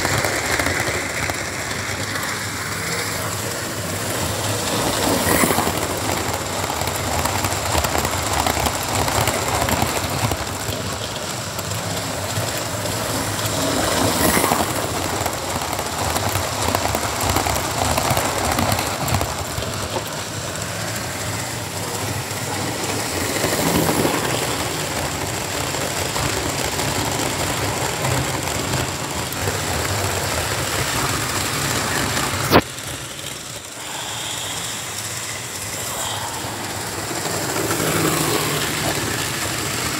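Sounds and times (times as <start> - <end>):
model train motor whirring: 0.0 - 39.9
wheels rattling over track: 0.0 - 39.9.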